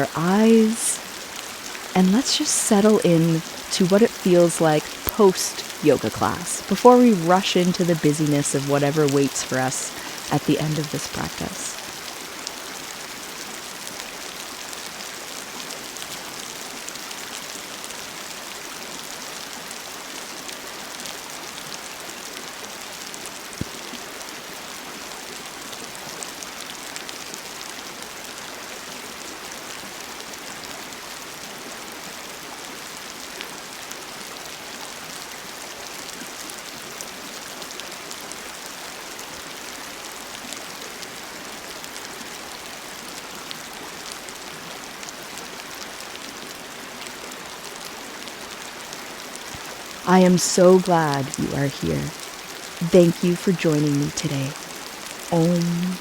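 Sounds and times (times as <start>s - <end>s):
river flowing: 0.0s - 22.4s, 23.1s - 56.0s
steady rain falling: 0.0s - 56.0s.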